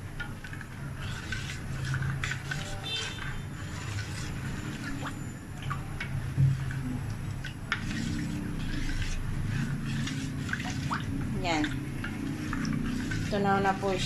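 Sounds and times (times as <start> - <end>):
liquid swishing in bowl: 0.0 - 14.0.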